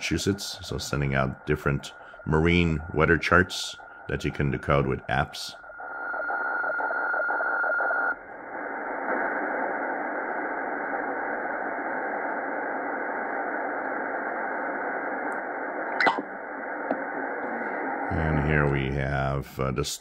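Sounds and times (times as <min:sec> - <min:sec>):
shortwave static hiss: 0:00.0 - 0:20.0
weather fax tone: 0:00.0 - 0:20.0.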